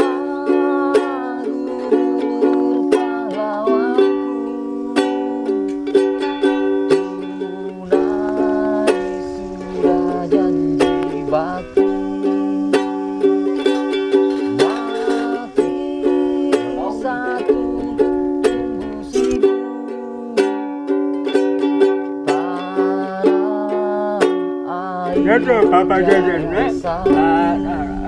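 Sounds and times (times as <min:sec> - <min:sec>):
ukulele strummed and picked: 0:00.0 - 0:28.0.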